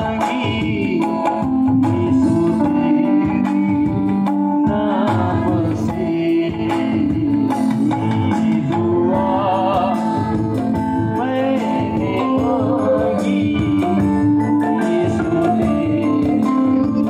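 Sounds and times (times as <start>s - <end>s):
instrumental accompaniment: 0.0s - 17.0s
man singing into microphone: 0.0s - 17.0s.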